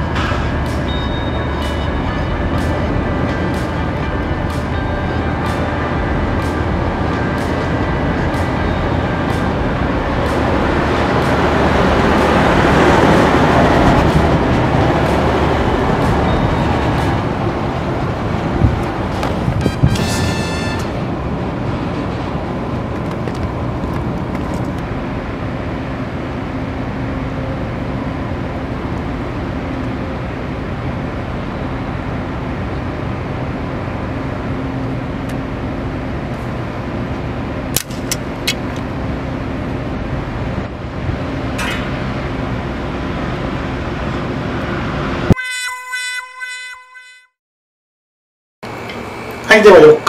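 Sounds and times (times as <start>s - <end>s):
outdoor ambient rumble: 0.0s - 45.4s.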